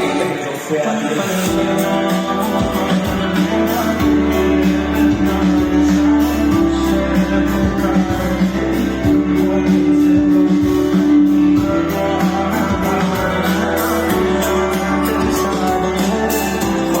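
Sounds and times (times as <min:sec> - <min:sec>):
instrumental pop music with guitar: 0:00.0 - 0:17.0.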